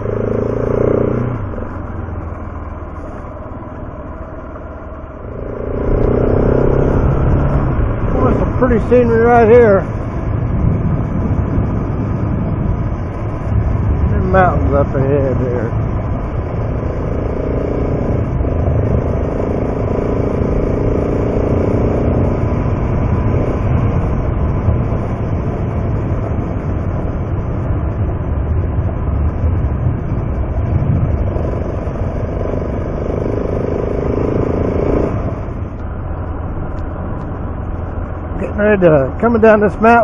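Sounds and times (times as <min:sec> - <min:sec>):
motorcycle engine: 0:00.0 - 0:40.0
wind and road noise: 0:00.0 - 0:40.0.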